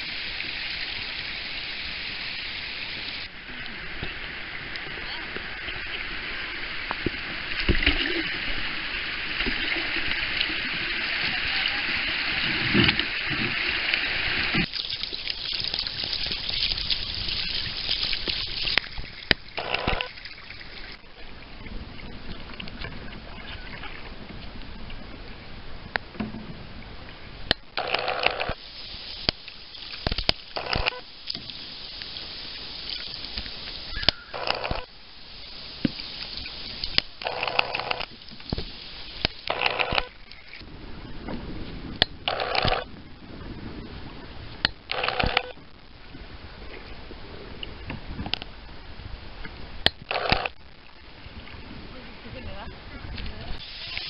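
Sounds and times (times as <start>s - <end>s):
water splashes: 0.0s - 54.0s.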